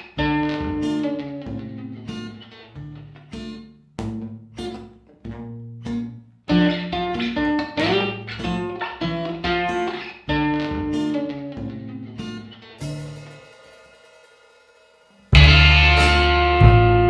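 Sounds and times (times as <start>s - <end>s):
plucked guitar music: 0.0s - 14.7s, 15.3s - 17.0s.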